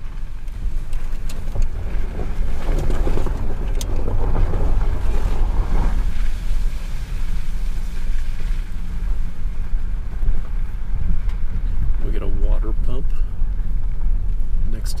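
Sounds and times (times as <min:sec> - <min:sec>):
car rumbling on dirt road: 0:00.0 - 0:15.0
tyres on snow and gravel: 0:00.0 - 0:15.0
wind buffeting microphone: 0:00.0 - 0:15.0.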